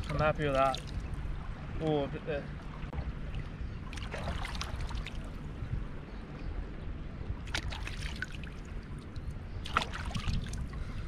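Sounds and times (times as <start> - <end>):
water splashing and trickling: 0.0 - 5.8, 7.3 - 11.0
low steady rumble: 0.0 - 11.0.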